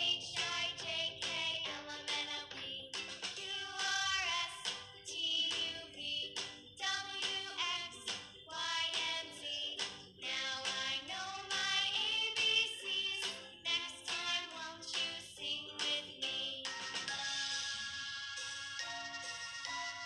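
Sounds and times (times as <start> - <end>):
song with sung vocals: 0.0 - 17.9.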